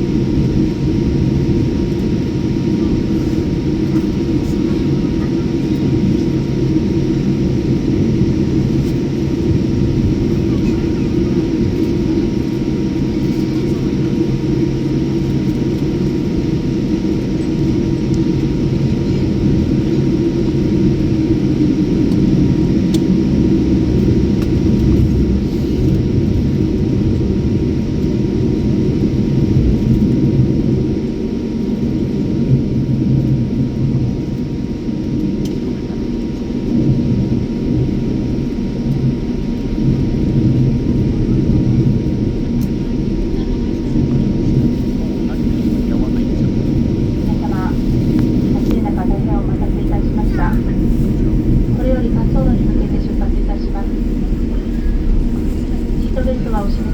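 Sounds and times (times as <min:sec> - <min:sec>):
jet engines rumbling: 0:00.0 - 0:56.9
faint constant whine: 0:02.8 - 0:56.9.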